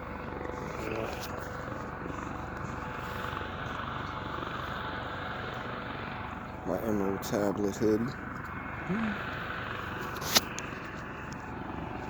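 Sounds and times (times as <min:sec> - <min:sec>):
distant helicopter droning: 0:00.0 - 0:12.0.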